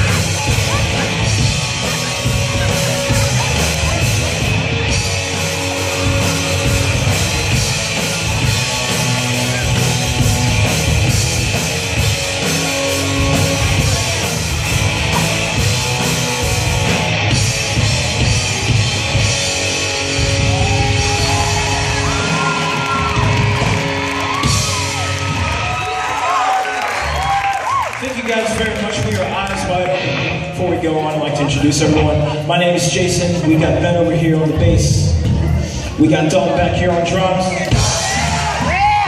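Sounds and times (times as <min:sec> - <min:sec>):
live rock band playing: 0:00.0 - 0:39.0.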